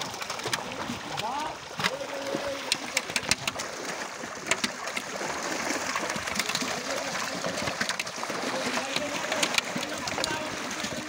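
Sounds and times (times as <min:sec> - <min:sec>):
fish thrashing and splashing: 0:00.0 - 0:11.0.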